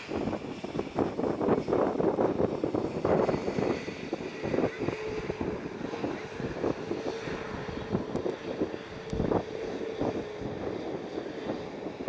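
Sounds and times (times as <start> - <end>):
jet engines humming: 0.0 - 12.0
wind buffeting microphone: 0.0 - 12.0.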